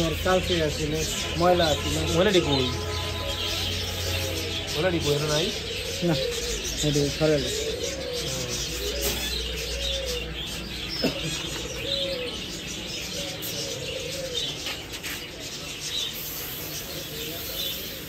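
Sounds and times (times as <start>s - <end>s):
doves cooing: 0.0s - 18.0s
small birds chirping: 0.0s - 18.0s.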